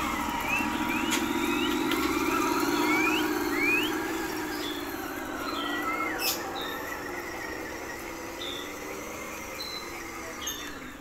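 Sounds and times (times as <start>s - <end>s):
small birds chirping: 0.0s - 11.0s
toy truck motor hum: 0.0s - 11.0s.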